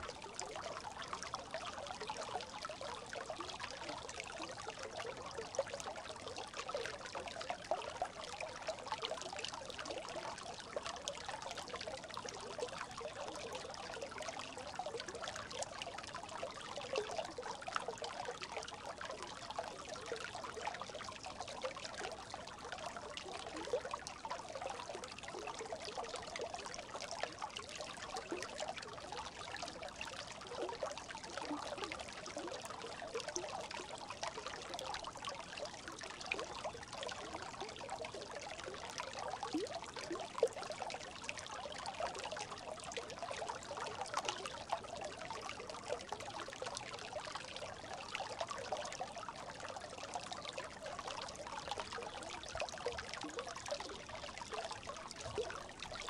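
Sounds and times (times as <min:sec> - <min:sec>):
brook babbling: 0:00.0 - 0:56.0.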